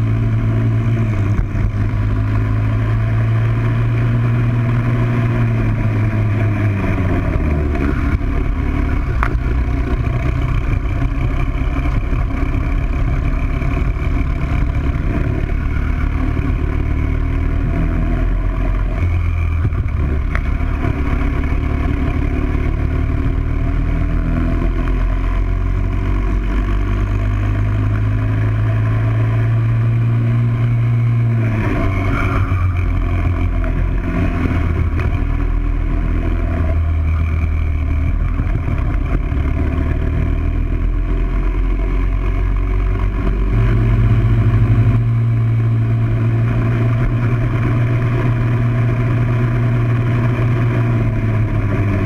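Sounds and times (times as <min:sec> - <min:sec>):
kart engine running hard: 0:00.0 - 0:52.0.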